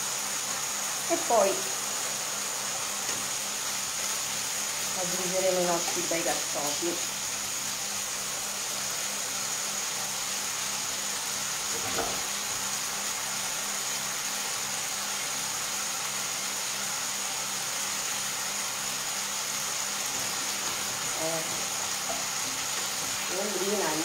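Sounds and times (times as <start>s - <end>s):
fish frying in pans: 0.0s - 24.0s.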